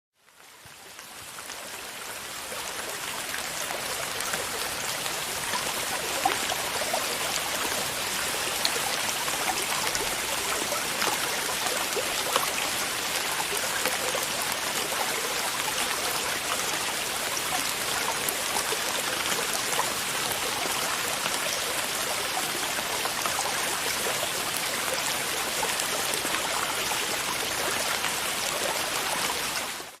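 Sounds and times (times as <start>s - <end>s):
rushing water: 0.2s - 30.0s.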